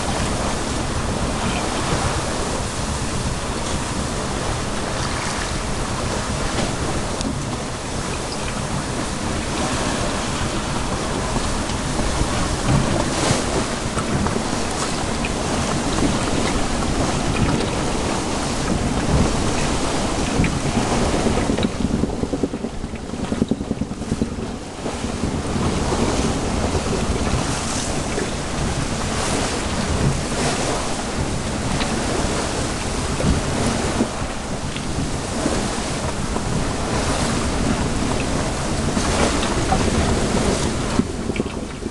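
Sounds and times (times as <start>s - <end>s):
water splashing around boat: 0.0s - 41.9s
wind buffeting microphone: 0.0s - 41.9s.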